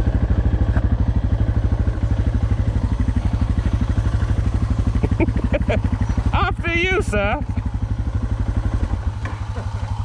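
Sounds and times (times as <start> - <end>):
motorcycle engine thumping: 0.0 - 10.0.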